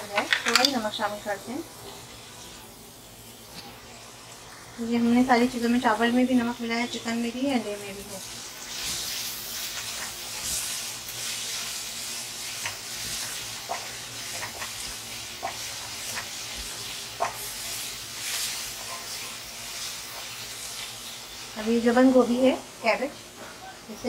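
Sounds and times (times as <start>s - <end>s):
vegetables sizzling in wok: 0.0s - 24.0s.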